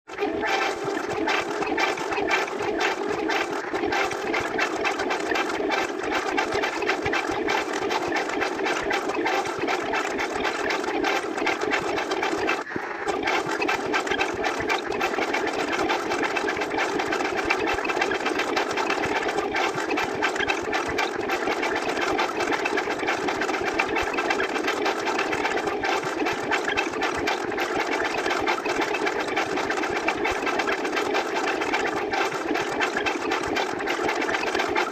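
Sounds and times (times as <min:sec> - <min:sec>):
rapid machine-like clicking rattle: 0:00.1 - 0:34.9.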